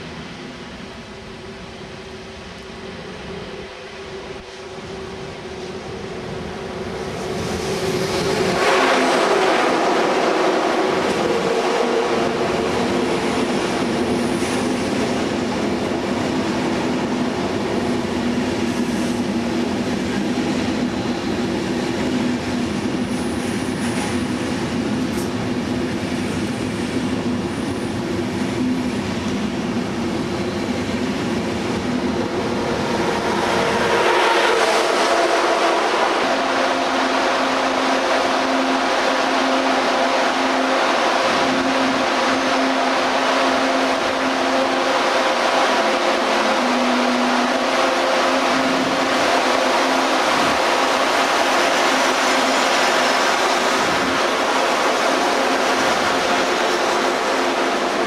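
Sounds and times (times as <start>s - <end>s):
electric train hum: 0.0s - 58.0s
train wheels rumbling on rail: 0.0s - 58.0s.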